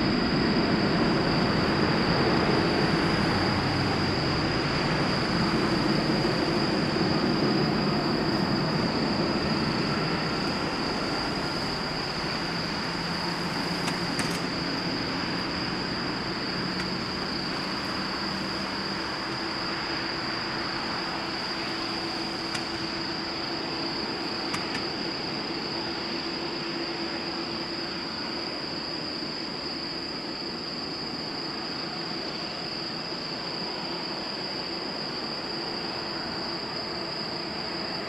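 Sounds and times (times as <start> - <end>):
jet engine rumble: 0.0 - 38.0.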